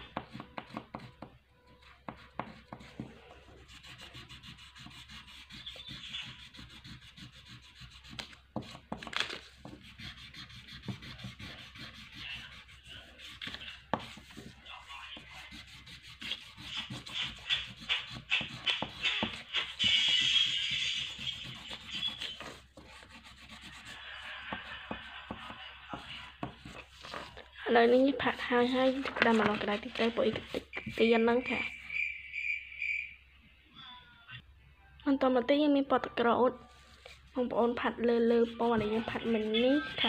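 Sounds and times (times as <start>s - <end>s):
crayon scratching on paper: 0.0s - 9.0s, 9.6s - 31.8s, 36.8s - 40.0s.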